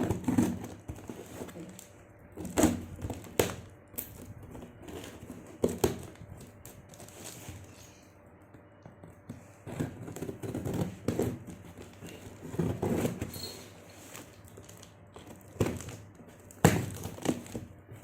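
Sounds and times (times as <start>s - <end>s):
plastic and cardboard rustling: 0.0s - 8.0s, 8.9s - 18.0s.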